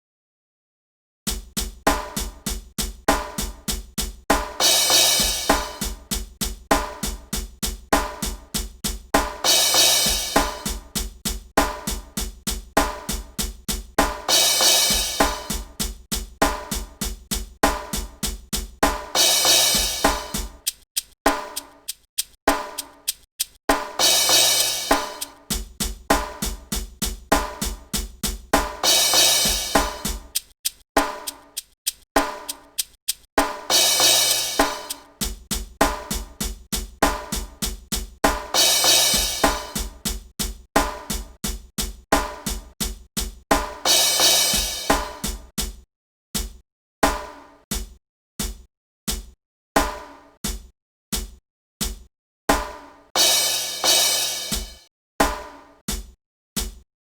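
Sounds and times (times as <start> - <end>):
drum kit hip-hop groove: 1.3 - 56.8.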